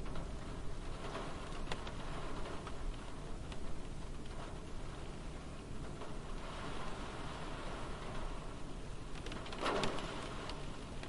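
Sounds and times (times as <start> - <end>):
rain pattering on car: 0.0 - 11.0.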